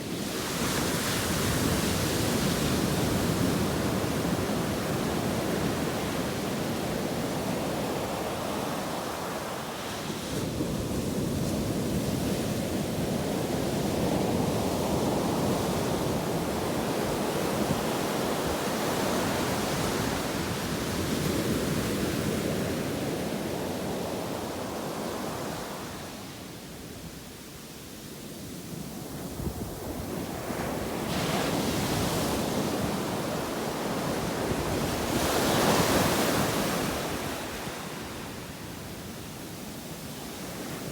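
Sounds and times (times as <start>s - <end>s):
waves breaking on a beach: 0.0s - 40.9s.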